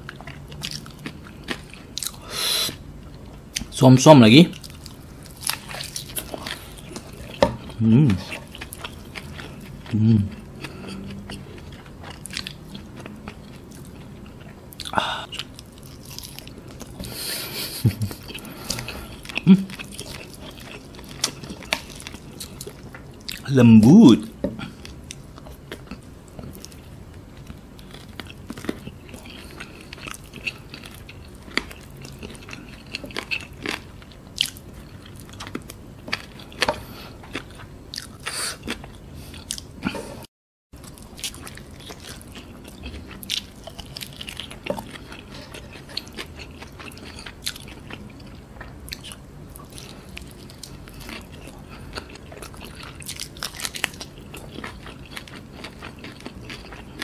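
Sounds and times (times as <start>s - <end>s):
person chewing fried chicken: 0.0s - 3.7s, 4.5s - 57.0s.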